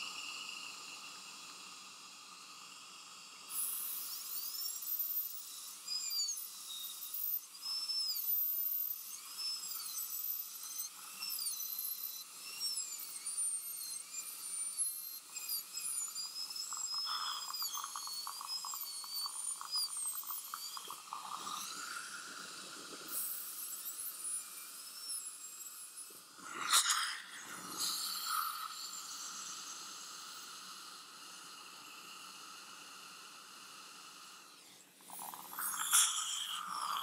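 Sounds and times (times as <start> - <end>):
dental drill whine: 0.0 - 37.0.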